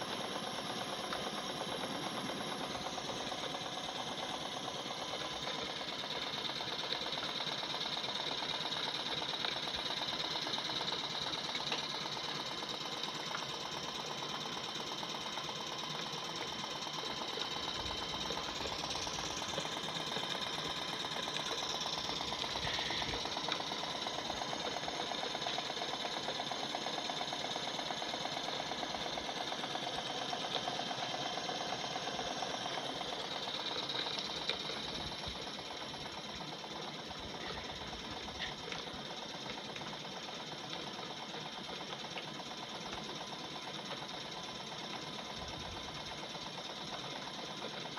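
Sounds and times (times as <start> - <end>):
small mechanical clatter: 0.0 - 47.9
toy steam engine running: 0.0 - 47.9.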